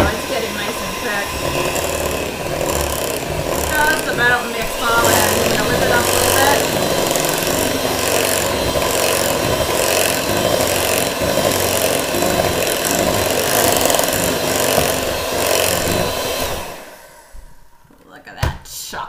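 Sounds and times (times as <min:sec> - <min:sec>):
electric hand mixer running: 0:00.0 - 0:17.8.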